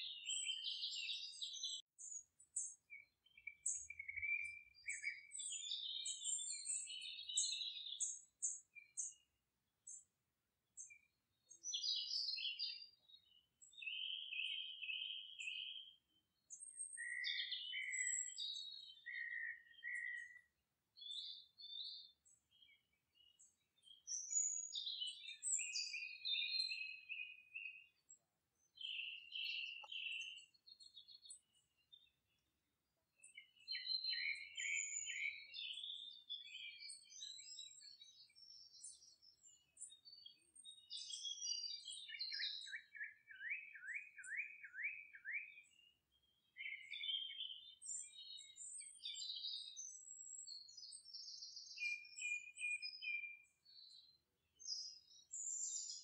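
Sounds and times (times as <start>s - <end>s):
songbirds chirping and singing: 0.0s - 10.2s, 10.8s - 56.0s.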